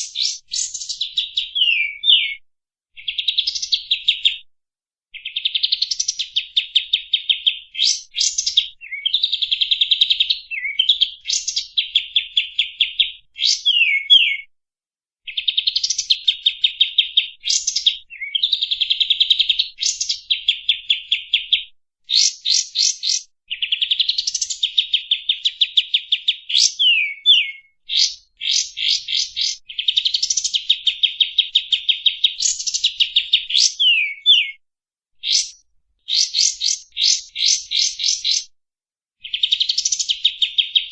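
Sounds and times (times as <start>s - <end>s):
songbird singing trills and whistles: 0.0s - 2.4s, 3.0s - 4.4s, 5.2s - 14.5s, 15.3s - 34.6s, 35.2s - 38.5s, 39.2s - 40.9s.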